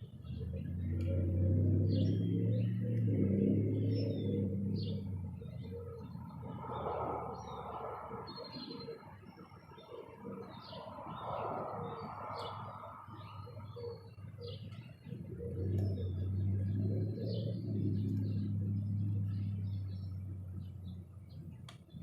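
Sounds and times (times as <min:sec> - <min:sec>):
small birds chirping and whistling: 0:00.0 - 0:22.0.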